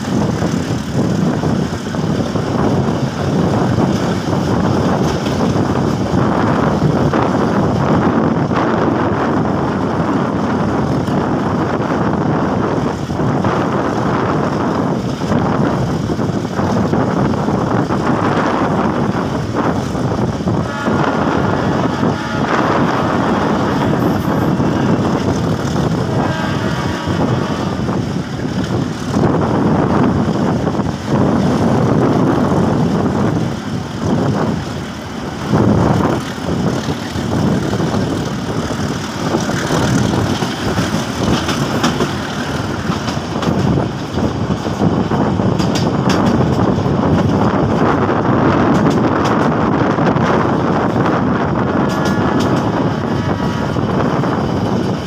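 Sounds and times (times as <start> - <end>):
train pulling away: 0.0 - 55.0.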